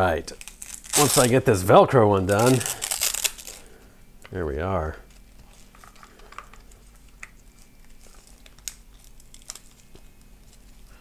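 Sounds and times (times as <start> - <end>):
wires rustling: 0.0 - 4.4, 5.0 - 11.0.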